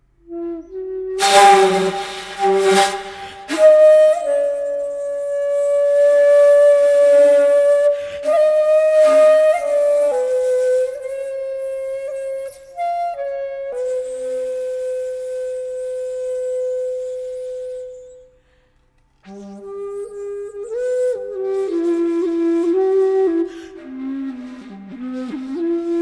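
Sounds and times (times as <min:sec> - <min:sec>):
flute playing long notes: 0:00.2 - 0:18.3, 0:19.3 - 0:26.0.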